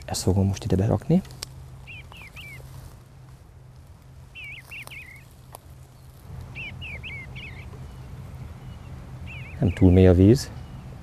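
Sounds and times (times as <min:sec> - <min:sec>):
low steady rumble: 0:00.0 - 0:11.0
songbird singing: 0:00.0 - 0:11.0.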